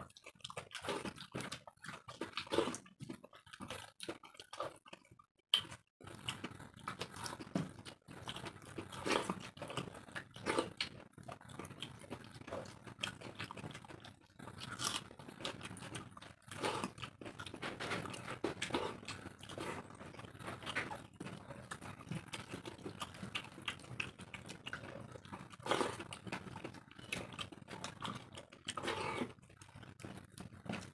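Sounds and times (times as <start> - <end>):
chewing and mouth noises: 0.0 - 30.9.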